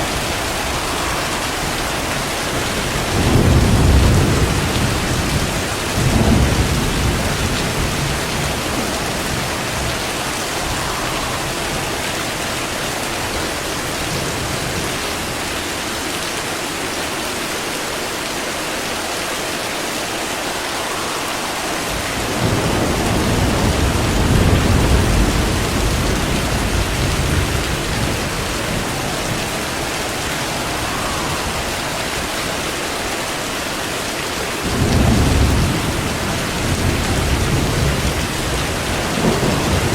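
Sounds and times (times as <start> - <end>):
rolling thunder: 0.0 - 15.4, 20.6 - 33.5, 34.6 - 39.9
heavy rain: 0.0 - 39.9.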